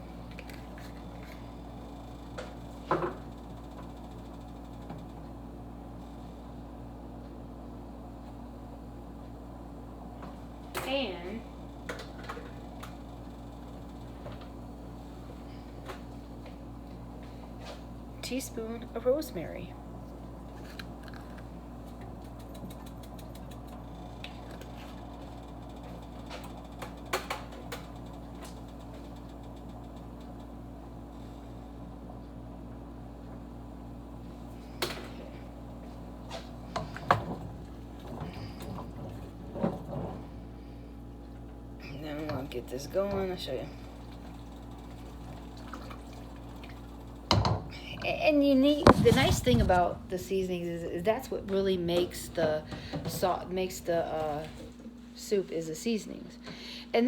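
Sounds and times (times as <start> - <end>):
appliance mechanical hum: 0.0 - 57.0.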